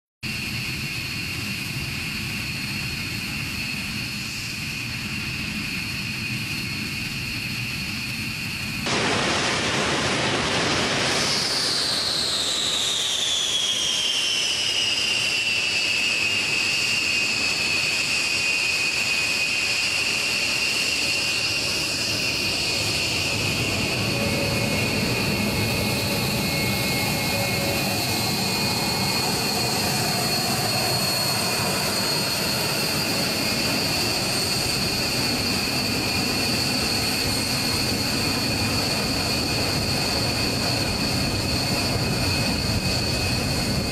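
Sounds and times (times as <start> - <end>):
jet engines whining: 0.3 - 43.9.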